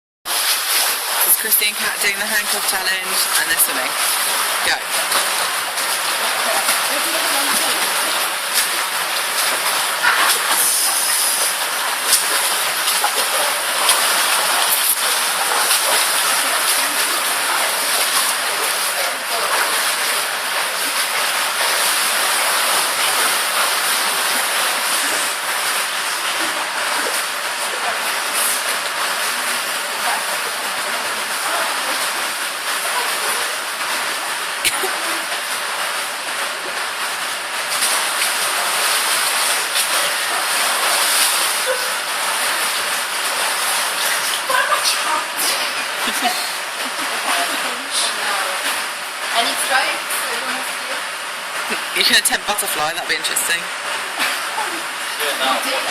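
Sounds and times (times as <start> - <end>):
people swimming and splashing: 0.3 - 55.9.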